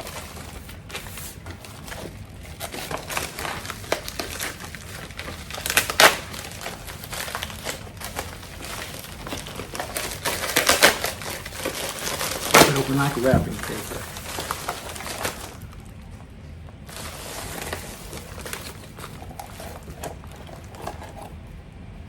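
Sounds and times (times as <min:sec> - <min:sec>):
paper packaging crinkling: 0:00.0 - 0:21.5.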